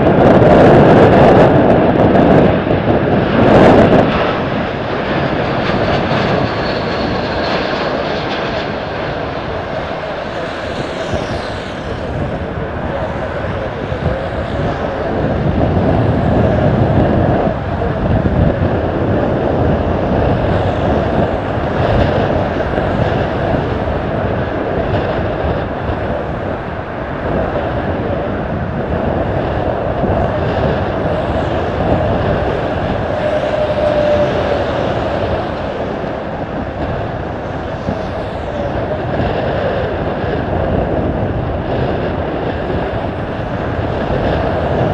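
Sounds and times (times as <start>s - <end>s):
distant jet engines rumbling: 0.0s - 44.9s.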